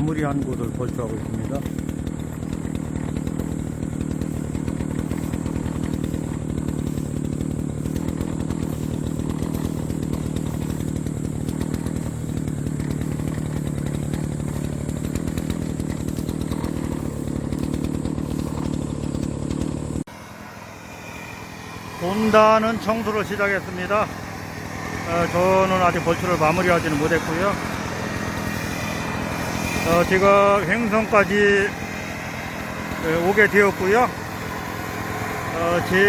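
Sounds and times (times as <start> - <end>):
brush cutter engine mowing grass: 0.0 - 36.0.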